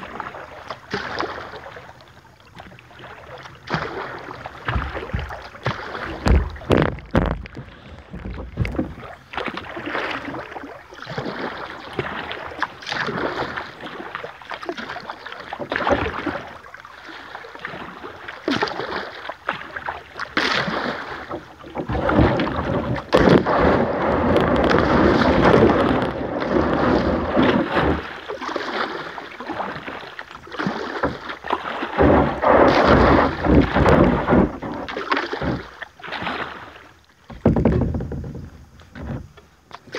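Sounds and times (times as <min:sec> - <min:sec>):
paddle knocking on hull: 0:00.0 - 0:39.9
paddle splashing in water: 0:00.0 - 0:39.9
rushing water: 0:00.0 - 0:39.9.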